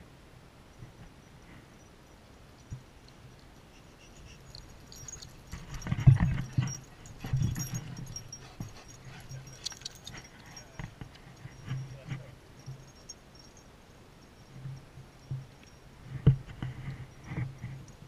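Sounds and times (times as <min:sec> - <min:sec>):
light metallic jingle: 0:00.6 - 0:18.0.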